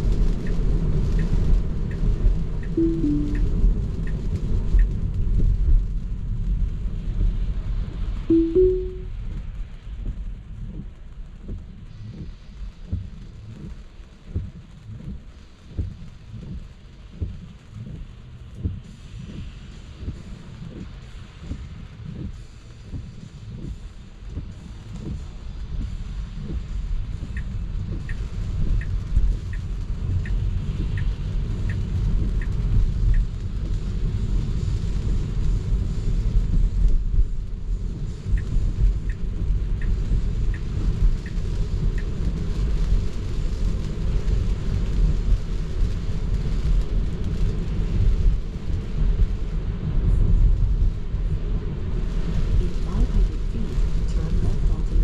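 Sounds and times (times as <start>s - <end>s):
road and tyre rumble: 9.6s - 55.0s.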